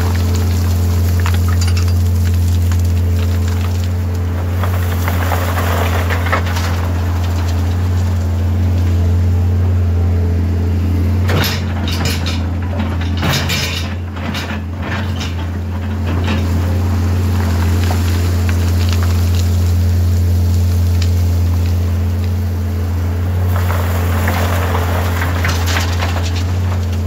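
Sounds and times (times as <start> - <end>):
rock clanking and clattering: 0.0 - 9.1, 11.2 - 22.4, 23.0 - 27.0
excavator diesel engine running: 0.0 - 27.0.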